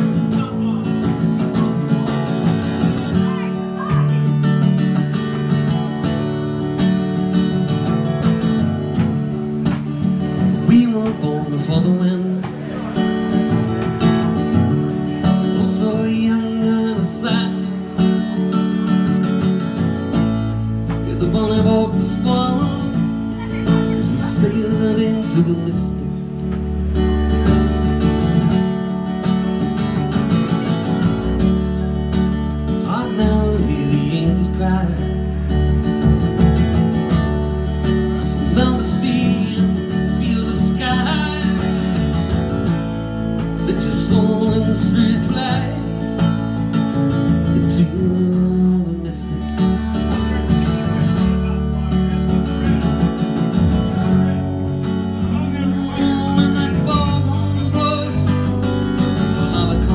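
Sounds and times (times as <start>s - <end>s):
acoustic guitar strumming: 0.0s - 59.9s
electric bass notes: 0.0s - 59.9s.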